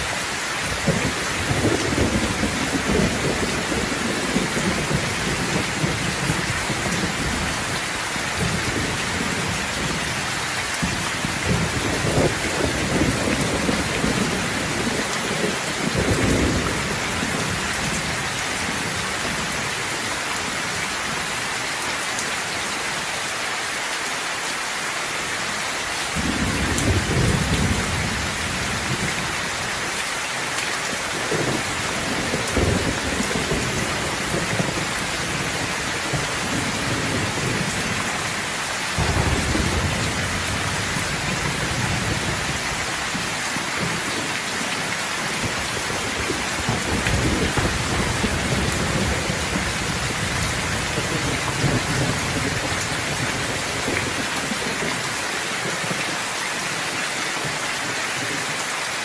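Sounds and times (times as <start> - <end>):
thunder rumbling: 0.0 - 19.9, 26.1 - 30.0, 30.9 - 55.1
heavy rain falling: 0.0 - 59.0.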